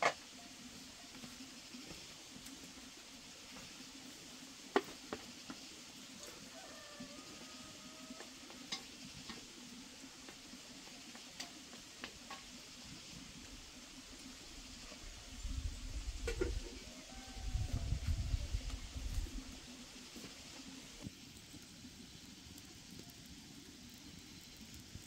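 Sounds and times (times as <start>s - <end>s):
greens sizzling in a wok: 0.0s - 25.0s.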